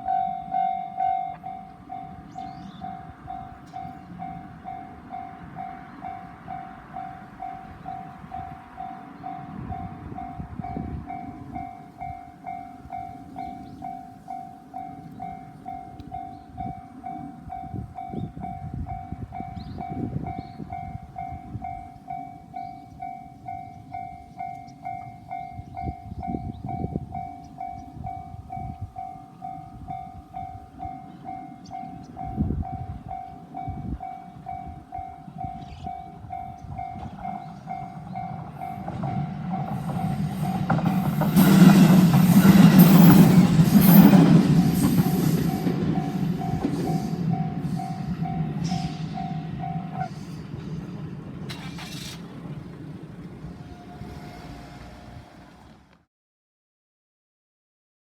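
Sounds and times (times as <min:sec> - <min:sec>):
level crossing warning bell dinging: 0:00.0 - 0:52.0
low rumble of train: 0:00.0 - 0:56.1.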